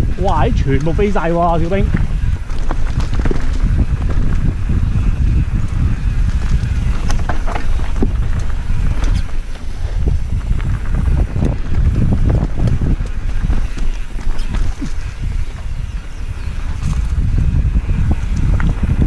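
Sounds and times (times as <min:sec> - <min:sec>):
wind buffeting microphone: 0:00.0 - 0:19.0
bike rattles and knocks: 0:00.2 - 0:19.0.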